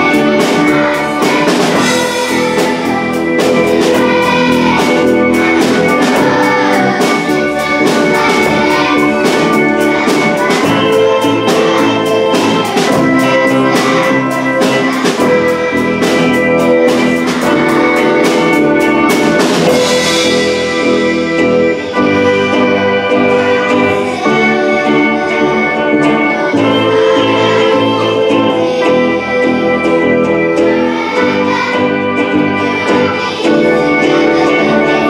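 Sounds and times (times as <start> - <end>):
band playing live pop song: 0.0 - 35.0
children's choir singing: 0.0 - 35.0.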